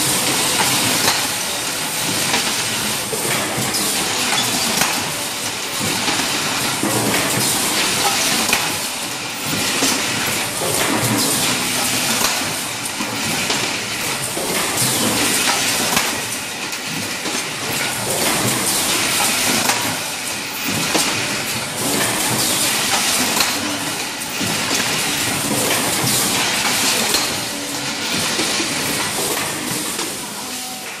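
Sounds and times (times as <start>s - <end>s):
production line metallic clatter: 0.0s - 31.0s.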